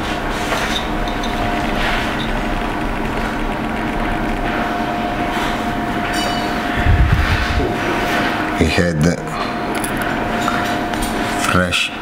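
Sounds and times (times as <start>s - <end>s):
ventilation fan hiss and hum: 0.0s - 12.0s.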